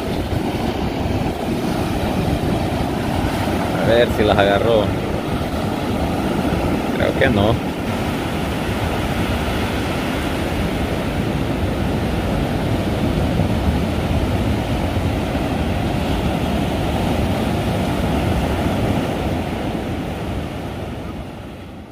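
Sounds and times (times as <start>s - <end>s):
ocean surf breaking: 0.0s - 21.9s.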